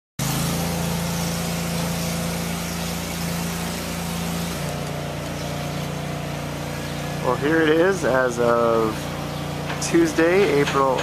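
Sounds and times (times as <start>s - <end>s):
engine running steadily: 0.2s - 11.0s.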